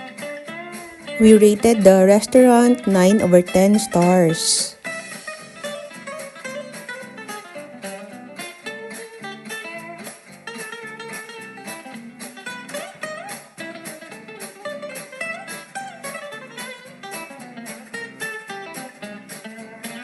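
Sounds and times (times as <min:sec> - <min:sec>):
instrumental guitar music: 0:00.0 - 0:20.0.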